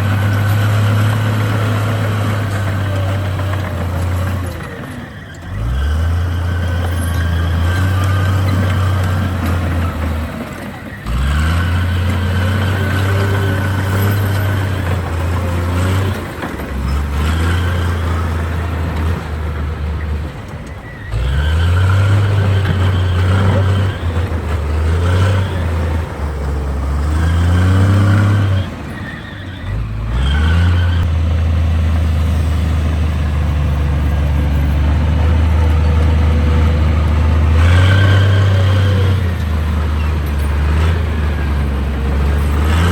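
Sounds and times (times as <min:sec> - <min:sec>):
bulldozer diesel engine under load: 0:00.0 - 0:42.9.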